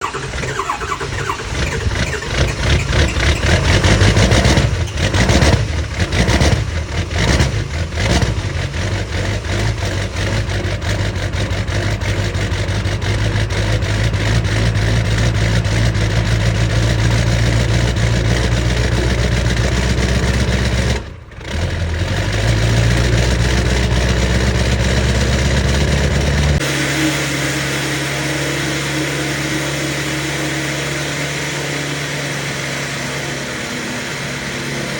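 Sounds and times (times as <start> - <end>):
diesel engine starting and idling: 0.0 - 34.9.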